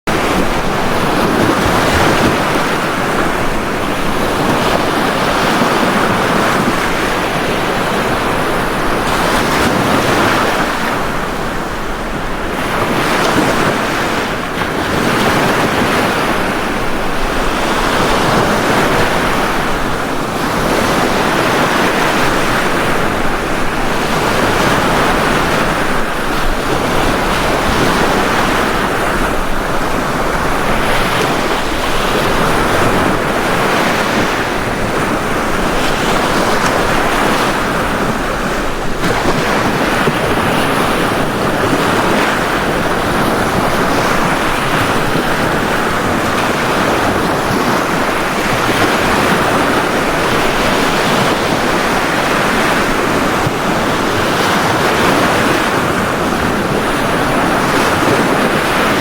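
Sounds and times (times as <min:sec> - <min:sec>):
ocean waves breaking: 0:00.1 - 0:59.0.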